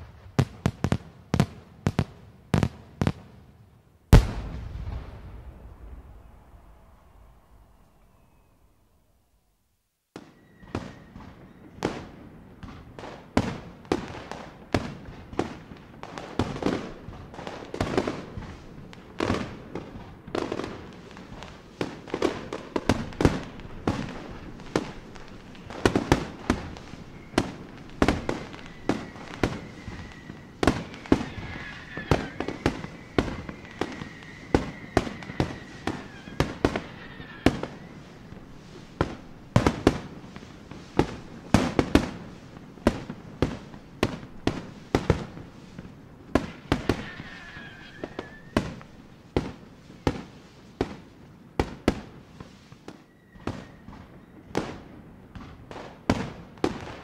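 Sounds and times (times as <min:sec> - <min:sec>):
distant fireworks bangs: 0:00.0 - 0:03.4, 0:04.1 - 0:08.5, 0:10.1 - 0:57.0.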